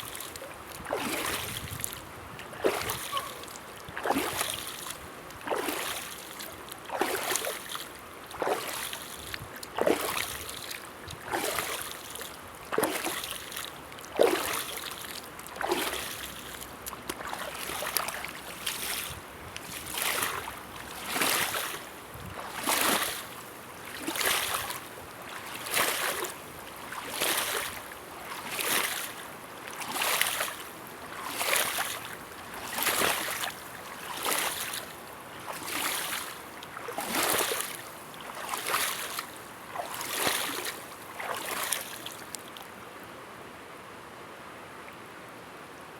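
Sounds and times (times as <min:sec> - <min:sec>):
river water splashing: 0:00.0 - 0:42.8.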